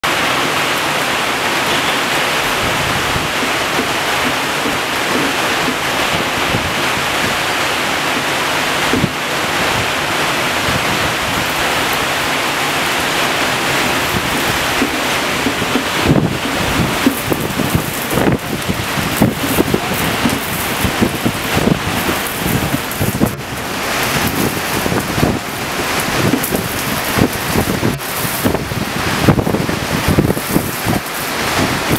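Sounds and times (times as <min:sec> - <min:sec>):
heavy rain and hail: 0:00.0 - 0:31.9
strong wind gusts: 0:00.0 - 0:31.9.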